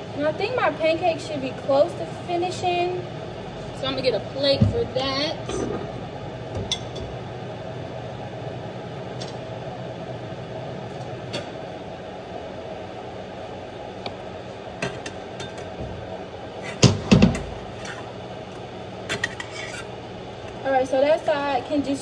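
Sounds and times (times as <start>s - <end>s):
kitchen background hum: 0.0s - 22.0s.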